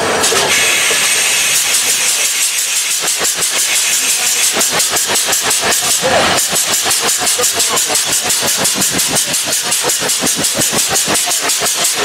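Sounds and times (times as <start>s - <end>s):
steam hissing: 0.0s - 12.0s
steam locomotive chuffing: 0.0s - 12.0s.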